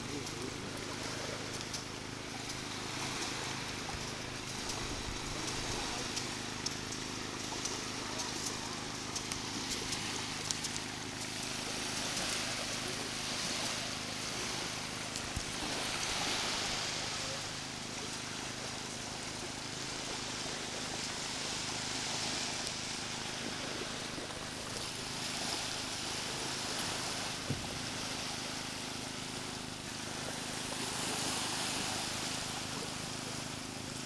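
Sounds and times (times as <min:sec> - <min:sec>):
small waves washing on beach: 0:00.0 - 0:34.0
steady low hum: 0:00.0 - 0:34.0.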